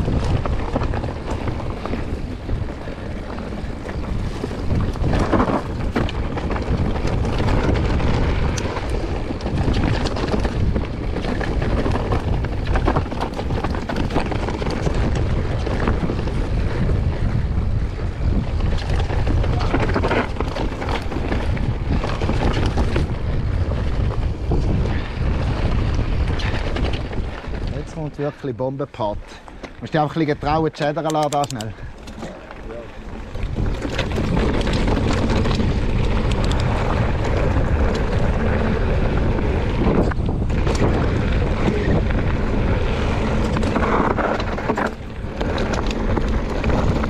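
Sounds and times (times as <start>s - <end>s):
bike rattling over bumps: 0.0s - 47.0s
tyres rumbling on rough trail: 0.0s - 47.0s
wind buffeting microphone: 0.0s - 47.0s.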